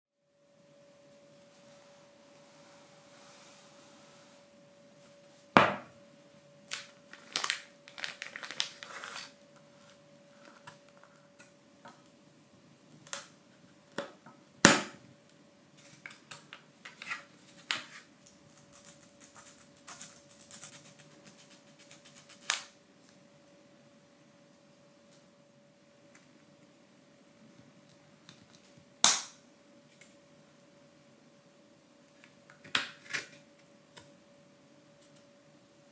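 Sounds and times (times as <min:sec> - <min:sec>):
faint steady hum: 0:00.2 - 0:35.9.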